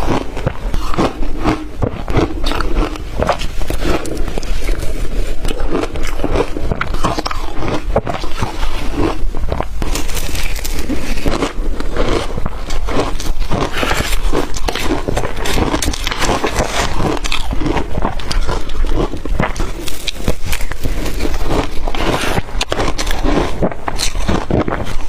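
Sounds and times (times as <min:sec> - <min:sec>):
person chewing crushed ice: 0:00.0 - 0:25.0.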